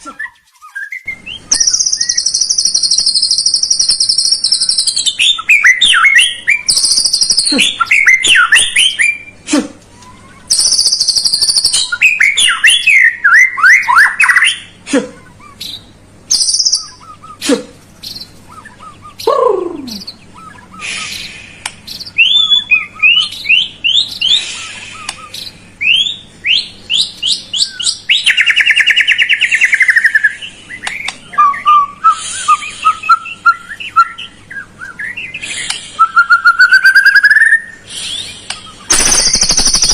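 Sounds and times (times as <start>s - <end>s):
songbird song: 0.0s - 9.4s, 10.0s - 39.9s.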